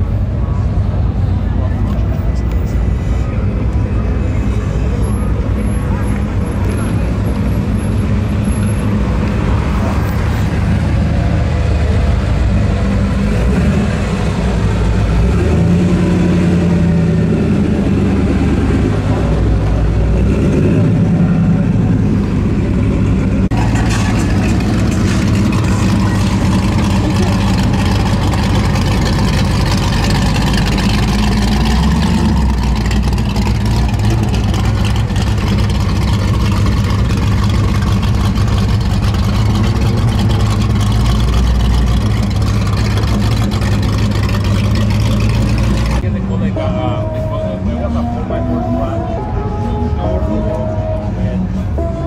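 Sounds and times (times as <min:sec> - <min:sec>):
car engines rumbling: 0:00.0 - 0:52.0.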